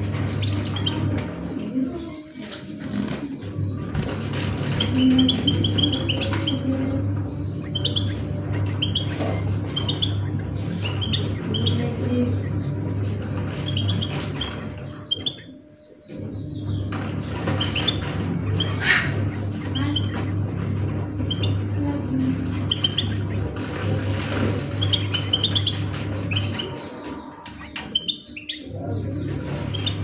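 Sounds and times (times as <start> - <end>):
songbirds chirping: 0.0 - 30.0
steady low hum: 2.8 - 30.0.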